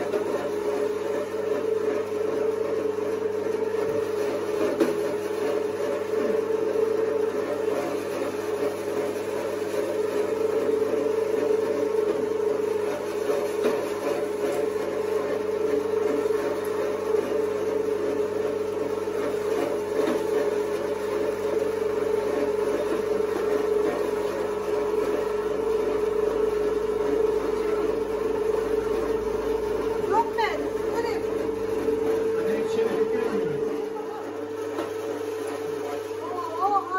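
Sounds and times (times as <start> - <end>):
electric meat grinder humming: 0.0 - 36.9.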